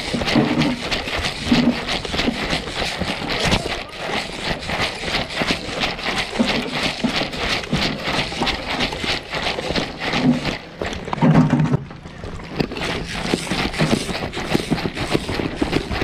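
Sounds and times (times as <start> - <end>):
quick footsteps in woodland: 0.0 - 16.0
rustling: 0.0 - 16.0.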